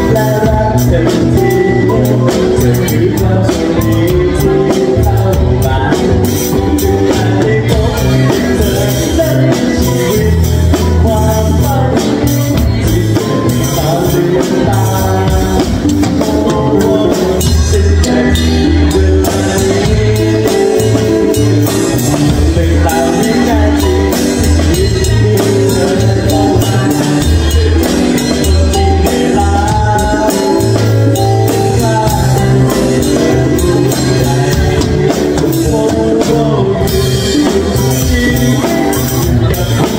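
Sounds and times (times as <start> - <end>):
bass line: 0.0 - 39.9
drums and cymbals: 0.0 - 39.9
guitar melody: 0.0 - 39.9.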